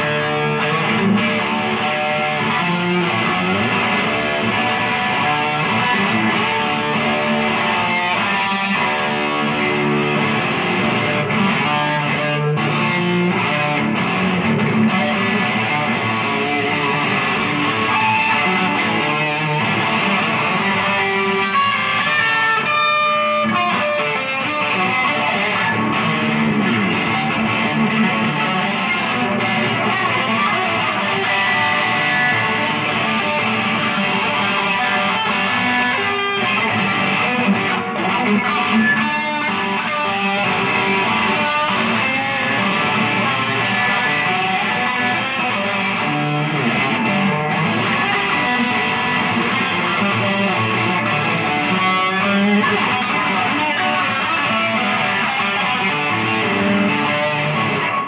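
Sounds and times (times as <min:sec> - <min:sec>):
electric guitar strumming chords: 0:00.0 - 0:58.0.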